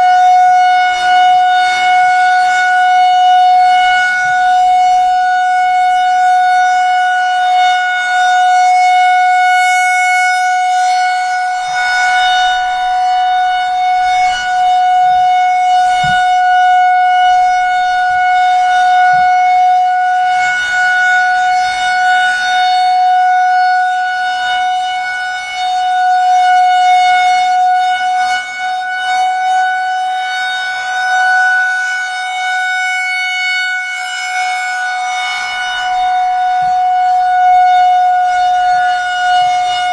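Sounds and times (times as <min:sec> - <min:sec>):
outdoor warning siren held tone: 0:00.0 - 0:39.9.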